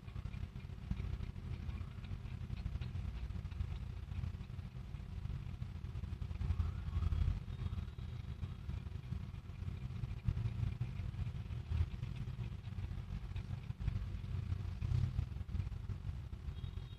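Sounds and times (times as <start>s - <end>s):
low background rumble: 0.0s - 16.9s.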